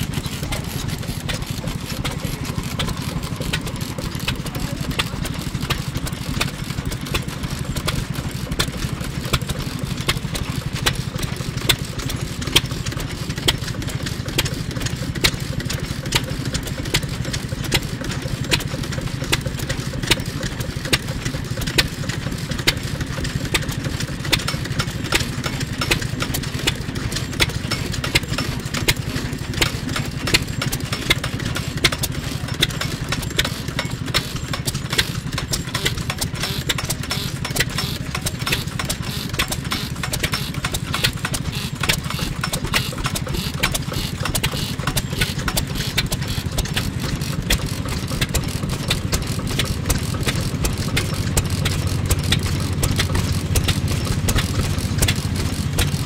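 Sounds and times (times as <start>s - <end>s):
stationary oil engine running: 0.0s - 56.0s.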